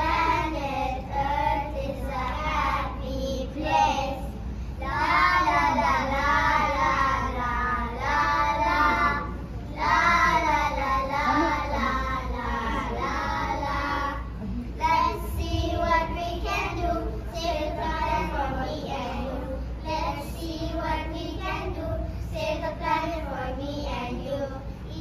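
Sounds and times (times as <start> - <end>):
young children singing: 0.0 - 25.0.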